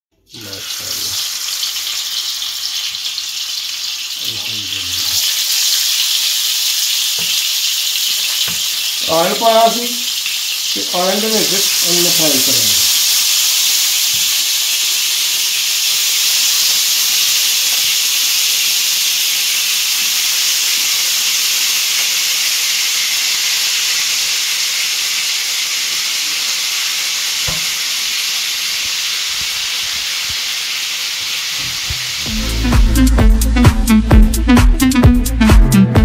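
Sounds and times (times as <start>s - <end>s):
chicken sizzling in oil: 0.2s - 32.3s.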